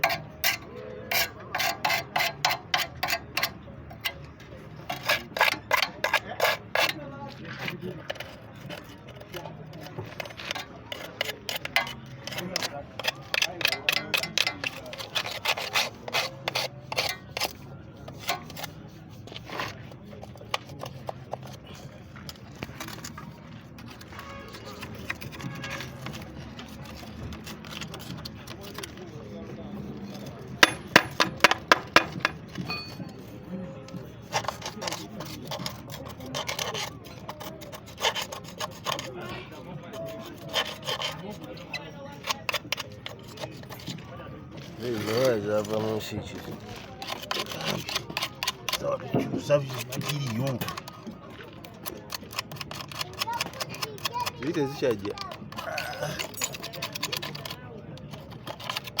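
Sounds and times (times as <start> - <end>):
hand scraping on a part: 0.0 - 59.0
rasping file strokes: 0.0 - 59.0.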